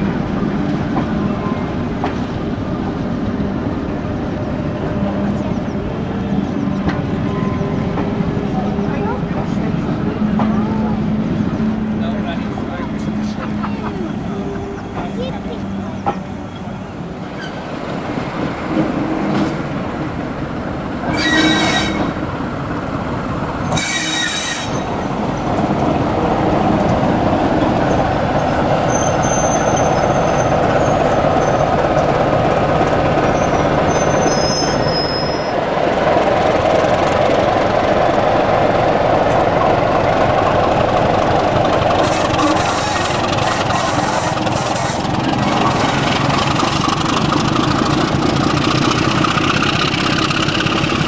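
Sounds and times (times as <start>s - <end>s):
diesel locomotive engine running: 0.0s - 51.0s
train coaches rolling: 0.0s - 51.0s.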